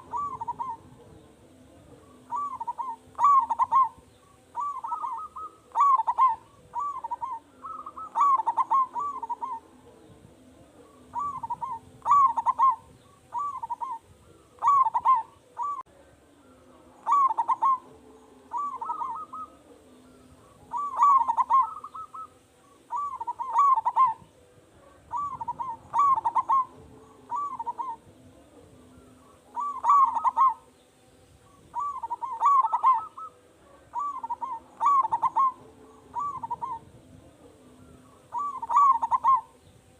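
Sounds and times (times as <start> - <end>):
dove cooing: 0.0 - 30.8, 31.4 - 39.9.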